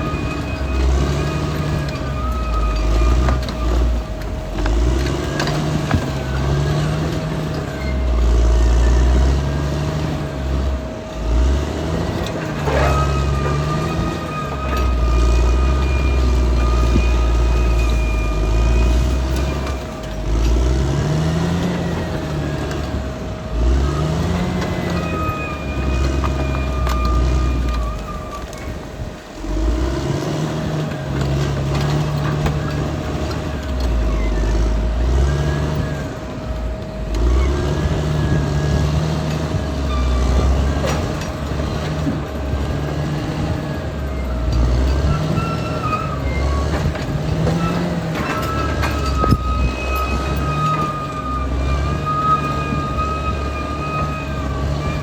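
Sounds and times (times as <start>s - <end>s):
bulldozer diesel engine rumble: 0.0s - 55.0s.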